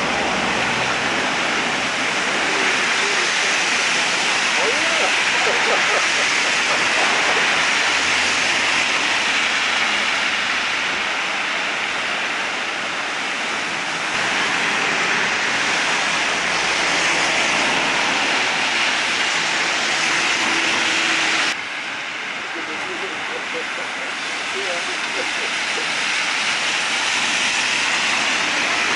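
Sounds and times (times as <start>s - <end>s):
car tyres through water: 0.0s - 28.9s.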